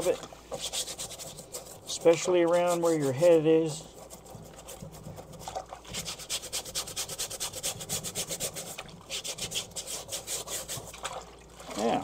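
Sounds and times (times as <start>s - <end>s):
brush scrubbing wet hat: 0.0s - 12.0s.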